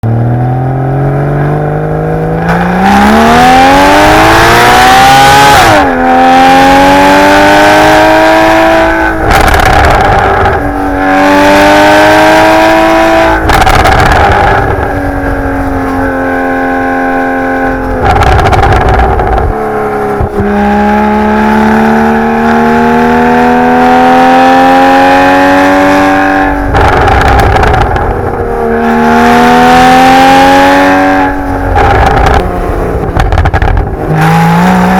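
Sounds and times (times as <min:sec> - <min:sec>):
car engine revving through gears: 0:00.0 - 0:34.9.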